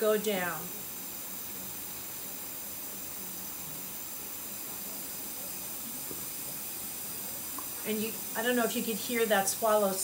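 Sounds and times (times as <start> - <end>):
faint room tone hiss: 0.0 - 10.0.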